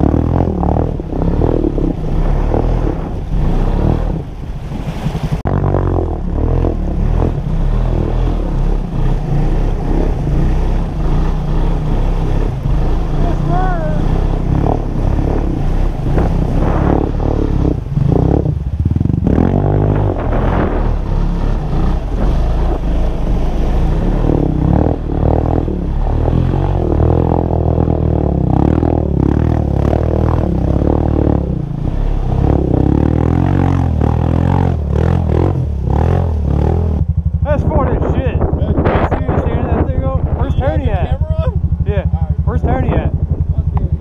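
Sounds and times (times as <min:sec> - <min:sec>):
atv engine revving: 0:00.0 - 0:44.0
vehicle splashing through water: 0:00.0 - 0:44.0.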